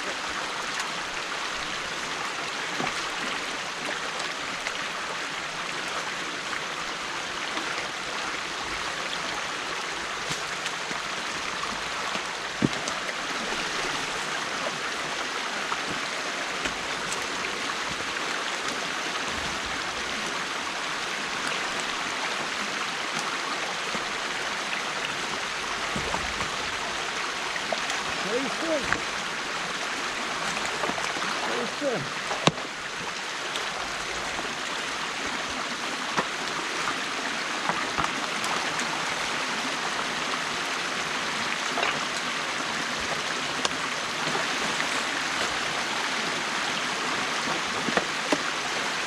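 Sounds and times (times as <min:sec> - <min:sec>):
stream water rushing: 0:00.0 - 0:49.0.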